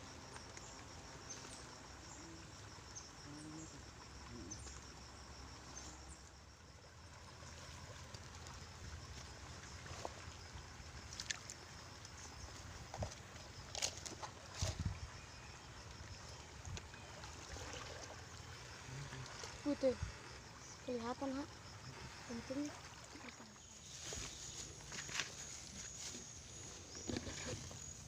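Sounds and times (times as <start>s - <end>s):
insect chirping: 0.0s - 28.0s
flowing stream water: 0.1s - 28.0s.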